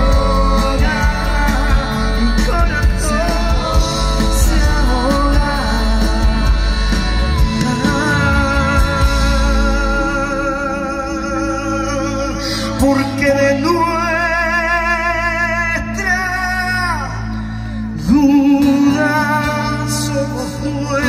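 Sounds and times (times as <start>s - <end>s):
man singing long wavering notes: 0.0s - 17.2s
acoustic guitar: 0.0s - 21.0s
bass guitar: 0.0s - 21.0s
drums: 0.0s - 21.0s.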